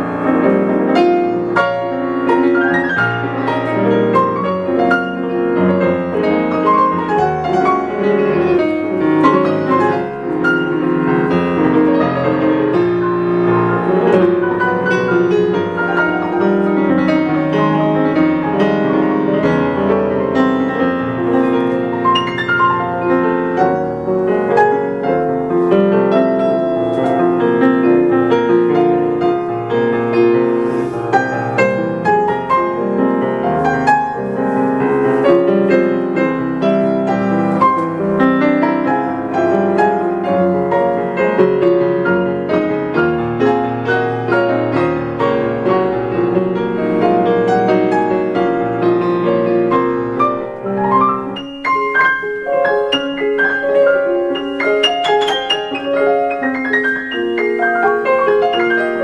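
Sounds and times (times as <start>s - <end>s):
piano played four hands: 0.0s - 59.0s.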